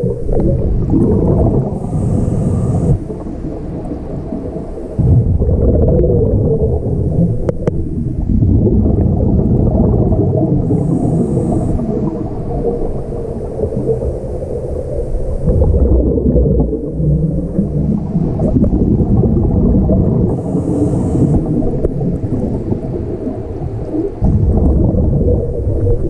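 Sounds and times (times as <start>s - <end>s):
bubbles gurgling: 0.0s - 26.0s
low underwater rumble: 0.0s - 26.0s.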